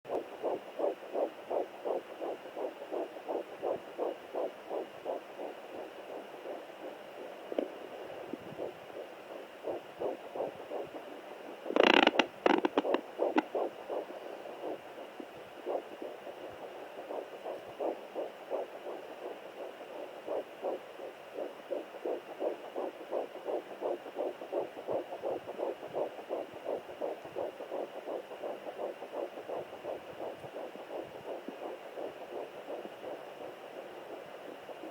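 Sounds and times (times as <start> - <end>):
fetal heartbeat whooshing pulse: 0.1 - 34.9.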